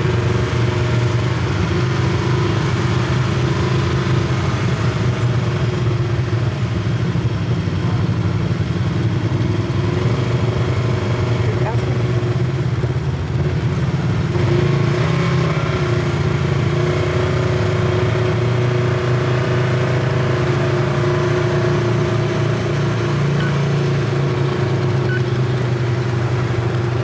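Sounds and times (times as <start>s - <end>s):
utility vehicle engine drone: 0.0s - 27.0s.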